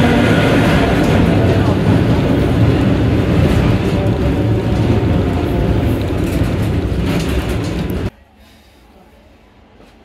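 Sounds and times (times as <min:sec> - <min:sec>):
tram wheels rumbling on rails: 0:00.0 - 0:08.2.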